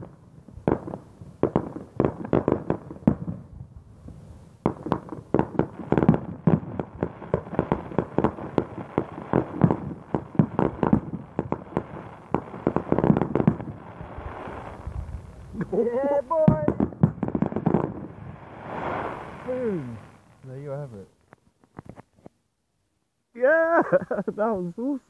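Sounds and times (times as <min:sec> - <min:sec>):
fireworks bursting: 0:00.0 - 0:22.3.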